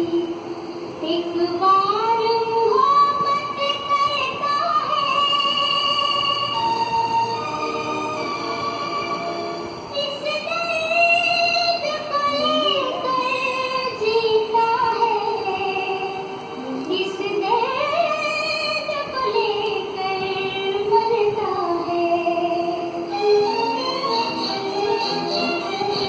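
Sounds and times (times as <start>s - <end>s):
song from a television: 0.0s - 26.0s.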